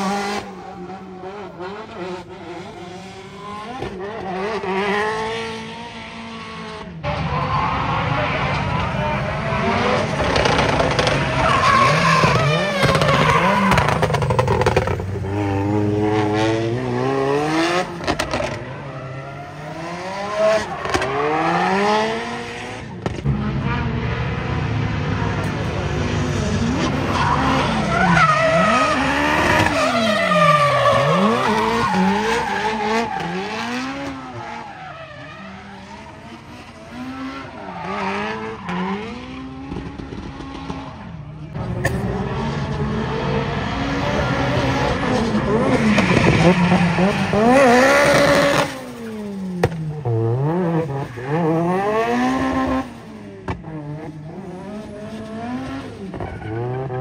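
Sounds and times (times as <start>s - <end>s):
tyres skidding: 0.0s - 24.0s, 25.0s - 57.0s
car engines revving: 0.0s - 57.0s.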